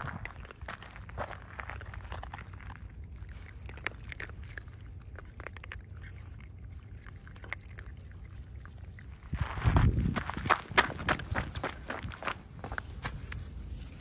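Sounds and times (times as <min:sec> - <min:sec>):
animals crunching dry kibble: 0:00.0 - 0:14.0
low steady rumble: 0:00.0 - 0:14.0.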